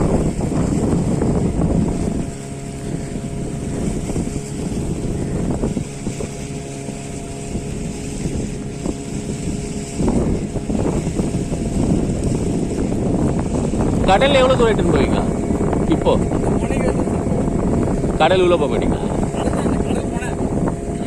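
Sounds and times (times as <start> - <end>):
boat motor running: 0.0 - 21.0
wind buffeting microphone: 0.0 - 21.0.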